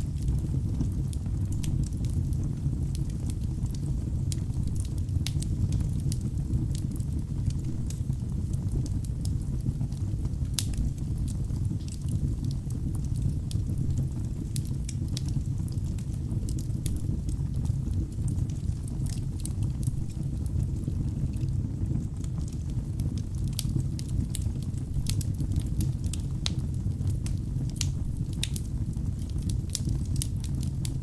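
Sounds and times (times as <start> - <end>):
fire crackling and popping: 0.0 - 31.0
fire roaring: 0.0 - 31.0.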